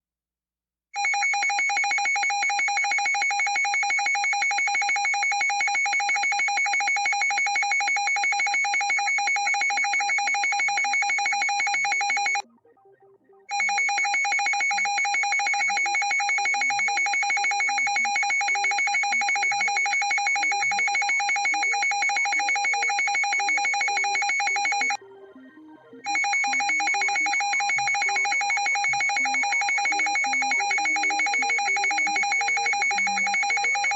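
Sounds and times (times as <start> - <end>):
pulsing alarm ring: 1.0 - 12.4, 13.5 - 25.0, 26.1 - 33.9.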